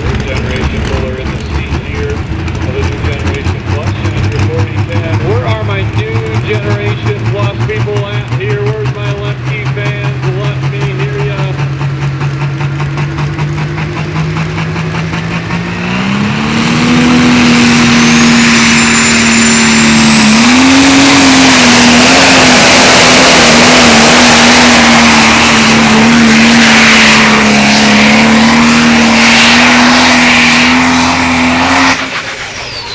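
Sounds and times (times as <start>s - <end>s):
tractor diesel engine revving: 0.0s - 32.9s.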